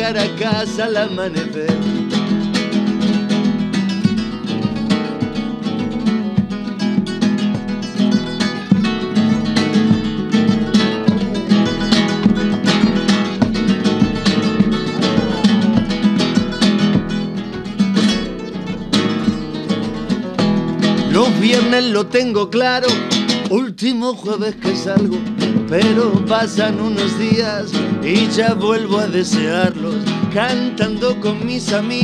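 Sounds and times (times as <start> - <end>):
acoustic guitars strumming: 0.0 - 32.0.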